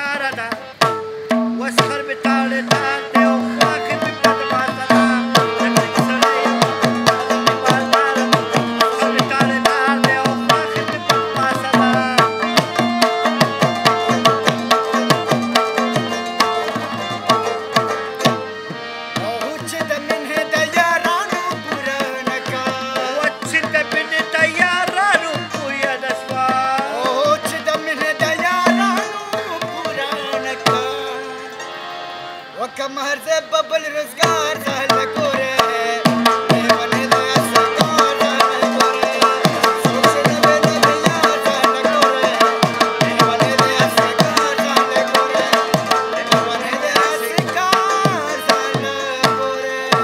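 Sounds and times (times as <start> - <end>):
tabla fast rhythm: 0.0 - 31.8, 32.8 - 50.0
harmonium and rabab melody: 0.0 - 50.0.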